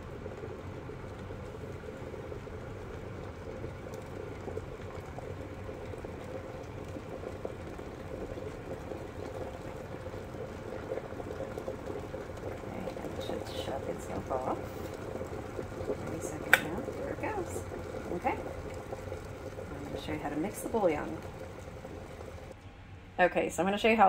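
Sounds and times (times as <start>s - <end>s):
kettle water boiling: 0.0s - 22.6s.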